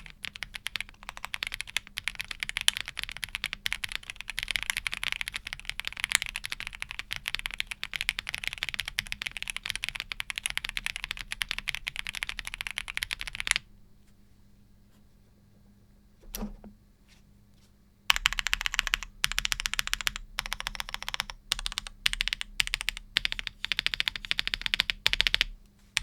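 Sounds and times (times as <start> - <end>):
typing on mechanical keyboard: 0.0 - 13.6, 18.1 - 26.0.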